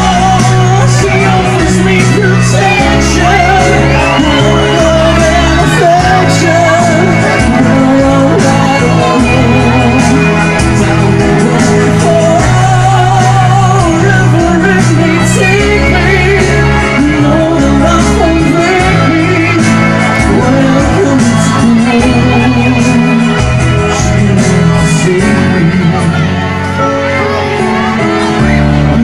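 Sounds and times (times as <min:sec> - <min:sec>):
live pop music through pa: 0:00.0 - 0:29.0
person singing: 0:00.0 - 0:29.0.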